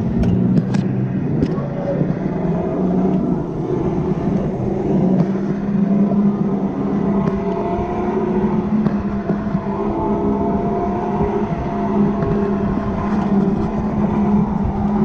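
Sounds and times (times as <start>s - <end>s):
electric motor whine: 0.0s - 15.0s
tyre and road noise: 0.0s - 15.0s.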